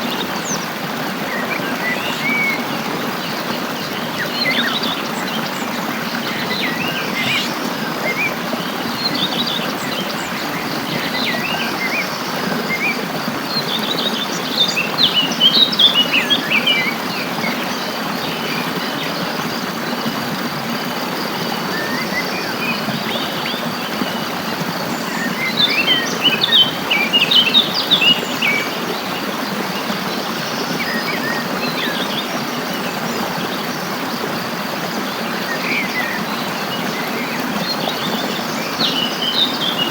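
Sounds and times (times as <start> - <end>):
rushing water: 0.0 - 39.9
small birds chirping: 0.0 - 39.9.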